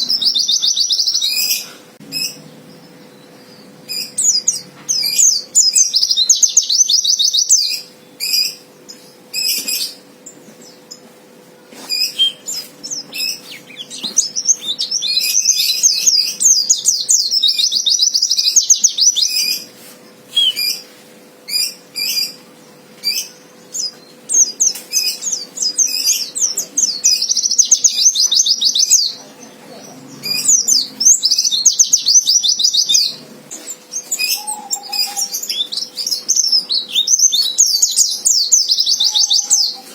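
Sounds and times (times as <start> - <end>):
bird twittering: 0.0 - 11.0, 11.8 - 19.7, 20.3 - 20.9, 23.0 - 39.9
bird chirps: 0.0 - 11.1, 11.8 - 19.7, 20.3 - 20.9, 21.5 - 39.9.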